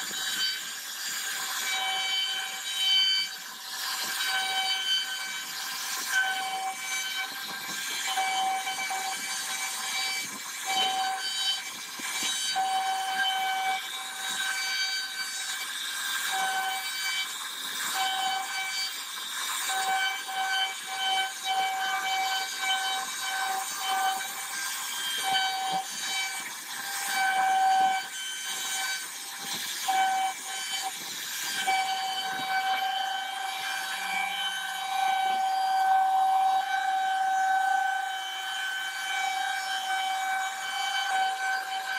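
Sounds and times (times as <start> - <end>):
bit hissing cutting wood: 0.0 - 34.8
router spindle whine: 0.0 - 41.9.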